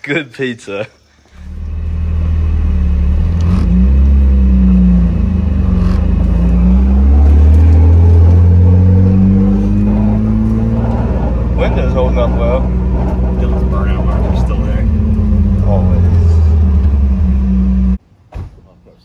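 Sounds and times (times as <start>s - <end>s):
car engine accelerating: 1.4s - 18.0s.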